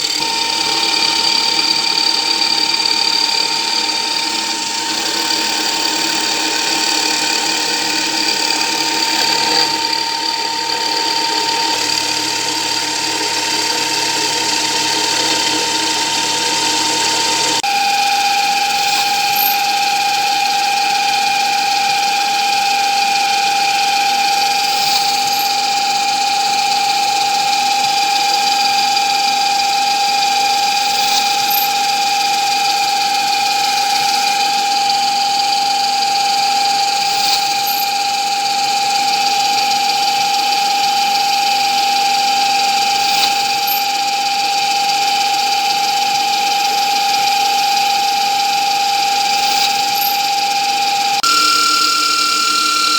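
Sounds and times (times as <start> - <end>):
power tool motor whining: 0.0 - 52.9.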